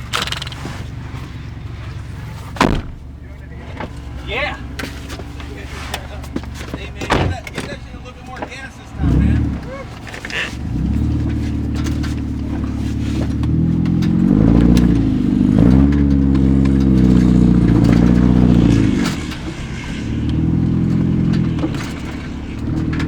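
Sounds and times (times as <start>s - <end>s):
vehicle engine revving hard: 4.0s - 23.0s.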